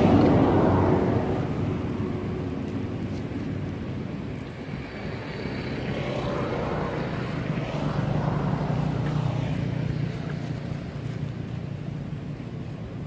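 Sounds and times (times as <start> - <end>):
low engine drone passing: 0.0 - 13.0.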